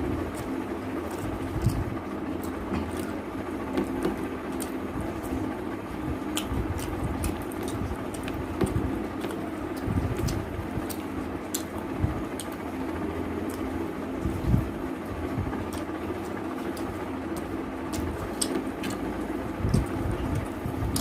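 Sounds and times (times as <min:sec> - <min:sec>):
steady background hum: 0:00.0 - 0:21.0
chewing and mouth clicks: 0:00.1 - 0:14.5, 0:15.6 - 0:21.0.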